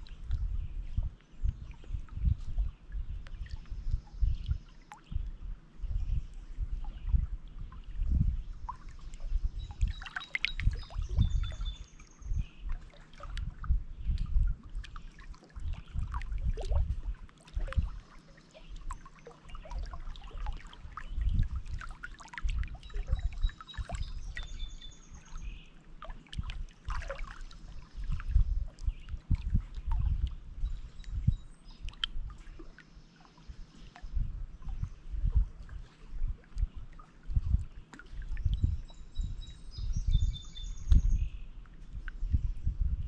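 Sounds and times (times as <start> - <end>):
songbird singing: 0.0 - 35.4, 36.6 - 42.5.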